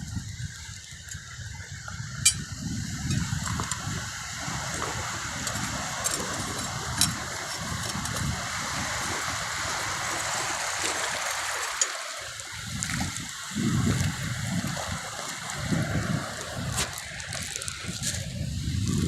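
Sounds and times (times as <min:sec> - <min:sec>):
seawater rushing and trickling: 0:00.0 - 0:19.0.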